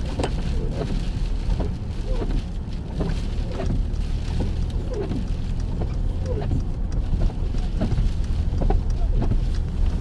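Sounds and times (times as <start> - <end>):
car driving on snowy road: 0.0 - 10.0.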